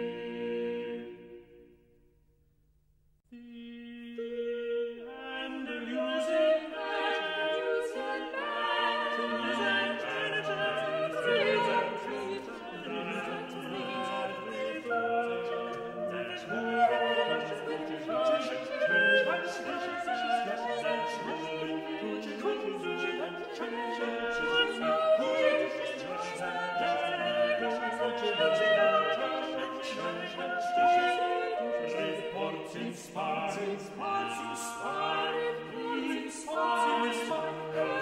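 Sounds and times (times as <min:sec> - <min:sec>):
vocal ensemble singing: 0:00.0 - 0:01.8, 0:03.4 - 0:38.0.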